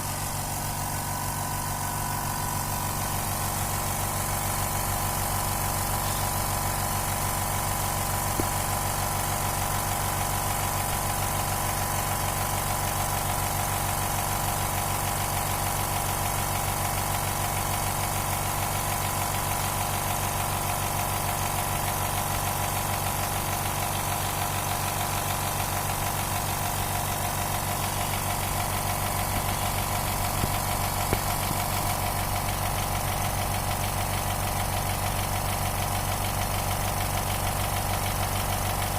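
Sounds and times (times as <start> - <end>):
air compressor motor hum: 0.0 - 38.9.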